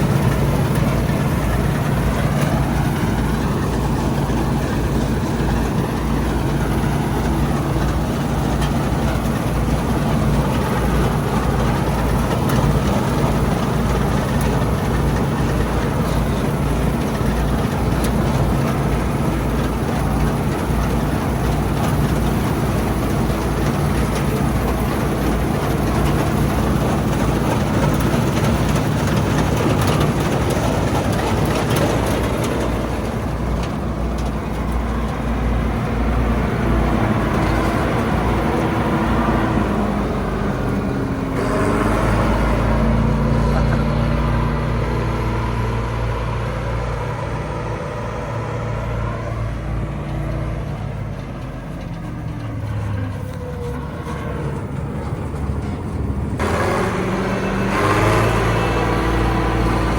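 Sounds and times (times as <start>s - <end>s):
combine harvester engine drone: 0.0s - 59.9s
rush of machinery noise: 0.0s - 59.9s.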